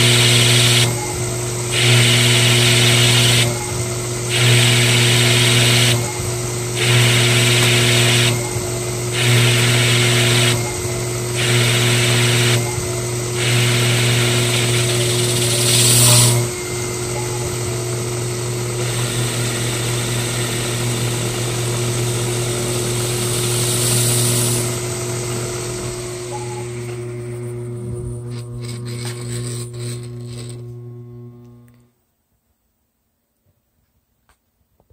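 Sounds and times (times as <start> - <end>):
metal cutting grinding: 0.0 - 31.8
lathe spindle motor humming: 0.0 - 31.9.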